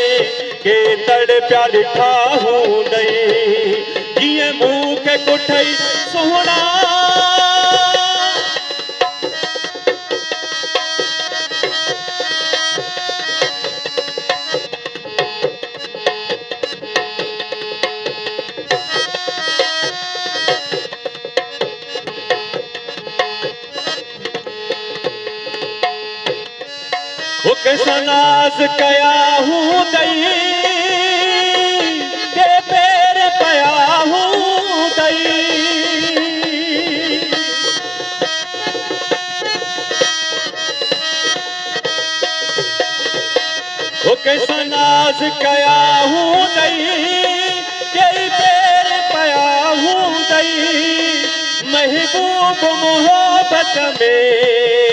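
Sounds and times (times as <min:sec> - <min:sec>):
sustained melodic accompaniment: 0:00.0 - 0:54.9
tabla drumming: 0:00.0 - 0:54.9
wavering lead melody: 0:02.7 - 0:54.0.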